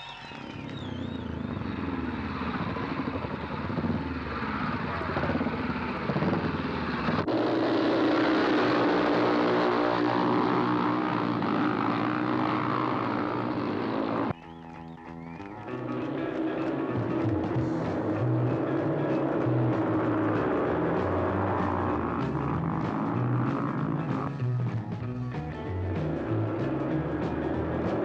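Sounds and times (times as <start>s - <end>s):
motorcycle engines racing: 0.0s - 28.0s.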